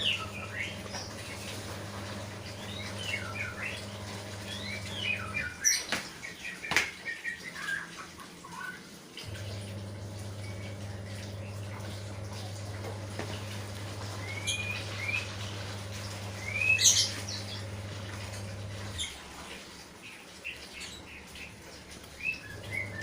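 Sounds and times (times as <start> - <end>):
electrical hum: 0.0 - 6.4, 9.2 - 23.0
small birds chirping: 0.0 - 23.0.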